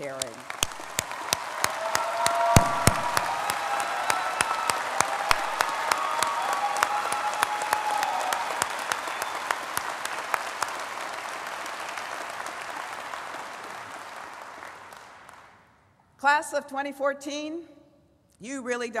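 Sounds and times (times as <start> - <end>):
loud single claps: 0.0 - 15.6
large audience applauding: 0.0 - 15.7.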